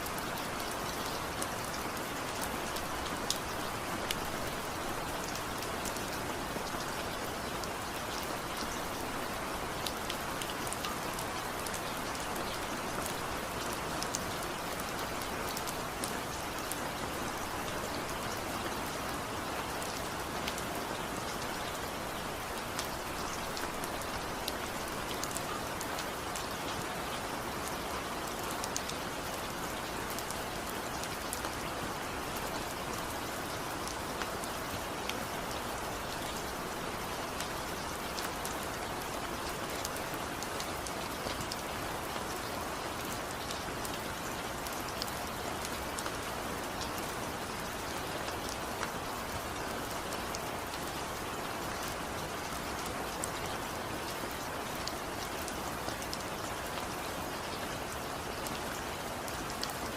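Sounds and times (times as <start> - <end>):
rain falling: 0.0 - 59.9
raindrops pattering on surface: 0.0 - 59.9.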